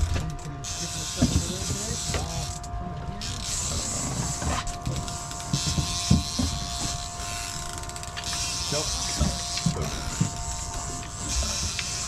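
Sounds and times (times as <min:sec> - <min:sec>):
fishing reel gears rattling: 0:02.1 - 0:12.0.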